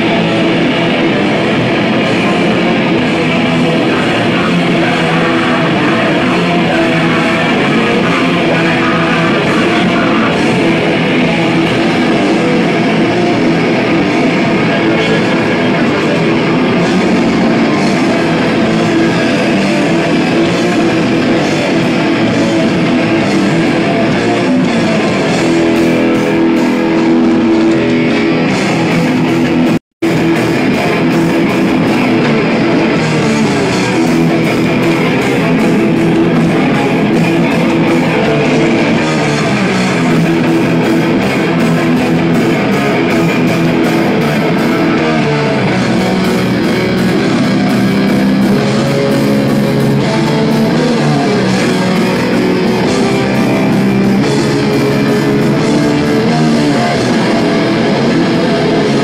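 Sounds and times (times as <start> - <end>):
punk band playing live: 0.0 - 59.0.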